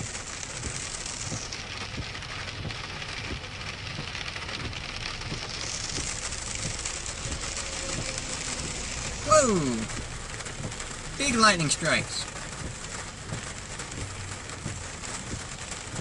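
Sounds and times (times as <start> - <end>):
low vehicle rumble: 0.0 - 16.0
rain on a vehicle: 0.0 - 16.0.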